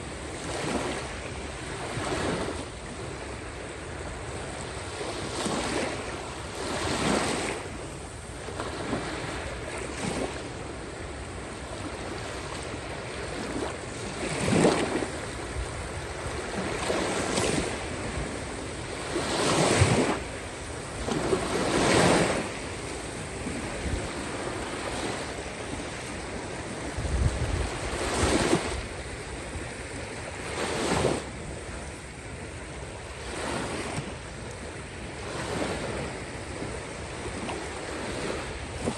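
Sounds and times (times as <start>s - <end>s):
waves breaking on shore: 0.0s - 38.9s
wind buffeting microphone: 0.0s - 38.9s.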